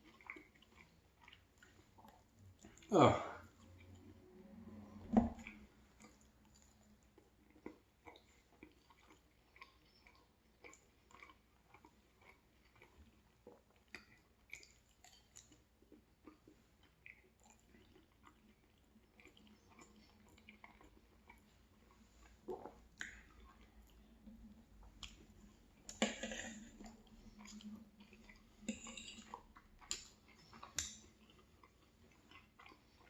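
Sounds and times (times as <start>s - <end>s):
person chewing: 0.0s - 33.0s.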